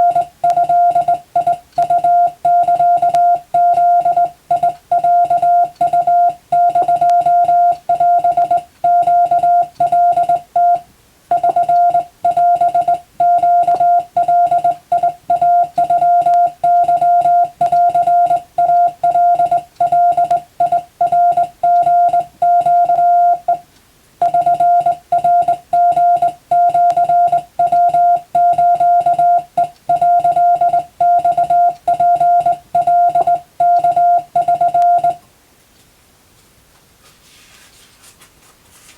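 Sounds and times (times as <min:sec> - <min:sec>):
morse code beeps: 0:00.0 - 0:23.6, 0:24.2 - 0:35.2.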